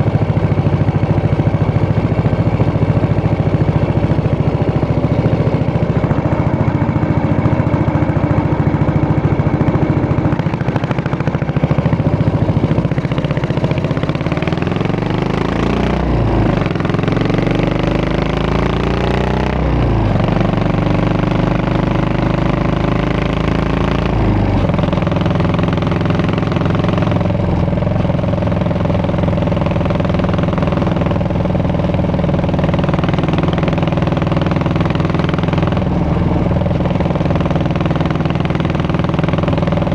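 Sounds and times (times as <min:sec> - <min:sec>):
motorcycle exhaust accelerating: 0:00.0 - 0:39.9.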